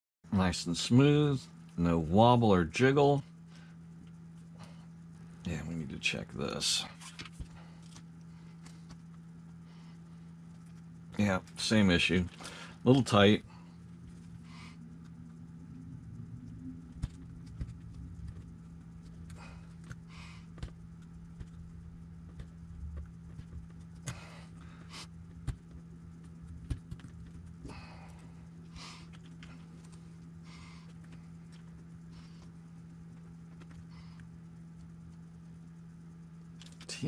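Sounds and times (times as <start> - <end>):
steady low hum: 0.2 - 37.0.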